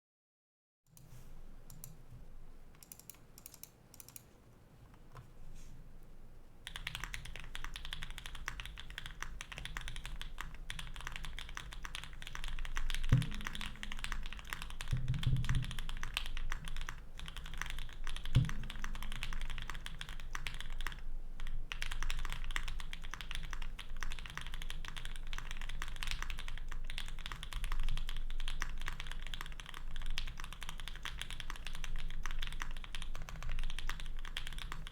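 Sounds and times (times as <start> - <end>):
mechanical keyboard typing: 2.8 - 4.3, 6.6 - 34.9.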